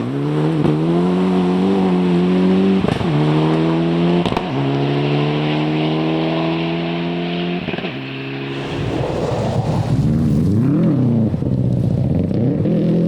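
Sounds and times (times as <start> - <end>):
rally car accelerating hard: 0.0 - 13.0.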